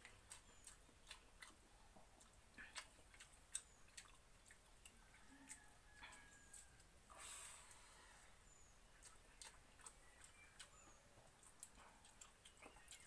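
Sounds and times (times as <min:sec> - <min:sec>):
chewing and wet smacks: 0:00.0 - 0:07.9, 0:08.8 - 0:13.0.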